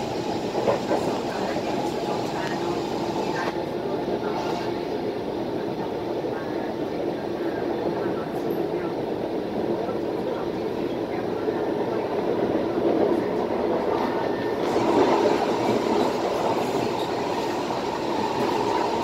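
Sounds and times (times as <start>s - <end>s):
metro train interior running noise: 0.0s - 19.0s.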